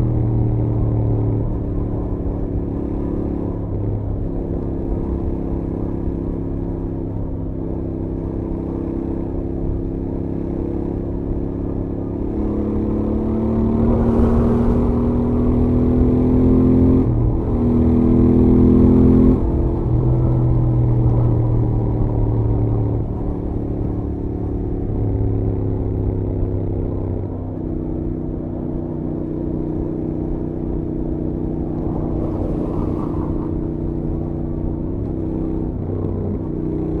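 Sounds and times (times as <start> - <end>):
motorcycle engine at highway speed: 0.0 - 37.0.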